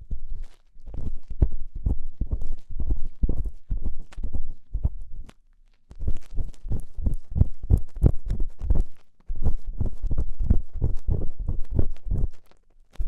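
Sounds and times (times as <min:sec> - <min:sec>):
ear rubbing and scraping strokes: 0:00.0 - 0:13.0.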